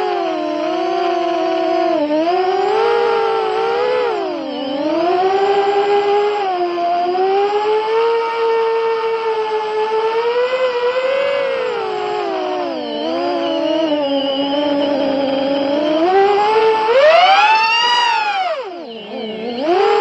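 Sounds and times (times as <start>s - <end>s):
drone motors buzzing whine: 0.0s - 20.0s.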